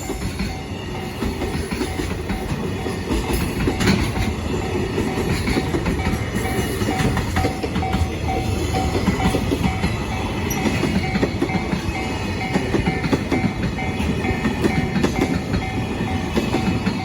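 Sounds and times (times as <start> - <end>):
freight train rumbling past: 0.0 - 17.0
level crossing warning bell: 0.0 - 17.0.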